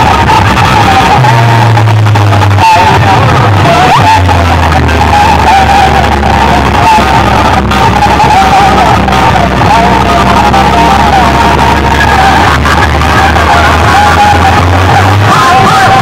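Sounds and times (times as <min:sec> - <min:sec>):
loud remix music with heavy bass: 0:00.0 - 0:16.0.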